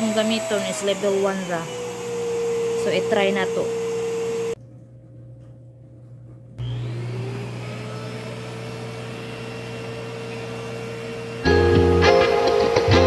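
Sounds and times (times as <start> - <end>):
vacuum motor whine: 0.0 - 4.6, 6.6 - 13.0.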